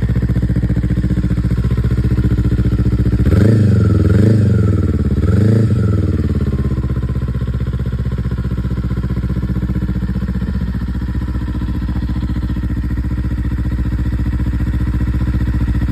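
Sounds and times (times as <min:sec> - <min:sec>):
motorcycle engine revving and idling: 0:00.0 - 0:15.9.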